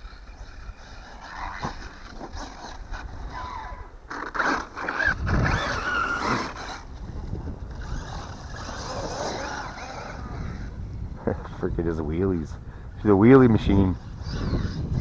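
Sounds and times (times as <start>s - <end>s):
rc truck motor whine: 0.0s - 11.2s, 13.8s - 15.0s
tyre noise: 0.0s - 12.6s.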